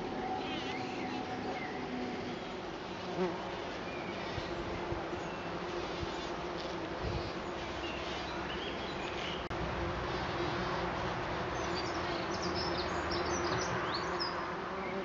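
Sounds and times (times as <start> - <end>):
flying insect buzzing: 0.0 - 12.5.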